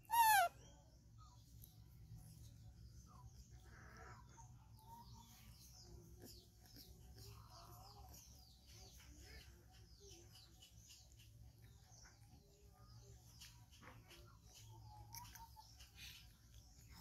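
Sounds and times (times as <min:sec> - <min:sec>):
faint small birds chirping: 0:00.0 - 0:17.0.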